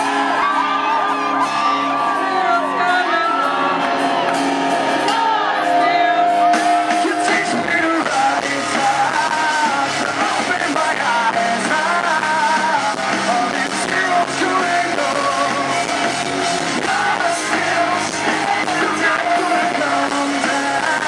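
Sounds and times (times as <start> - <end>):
live rock band playing: 0.0 - 21.0
man singing: 2.1 - 3.8, 5.1 - 21.0.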